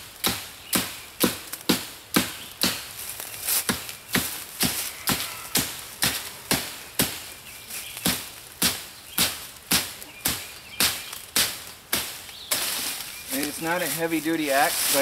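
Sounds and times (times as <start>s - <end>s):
tomahawk chopping branches: 0.0s - 15.0s.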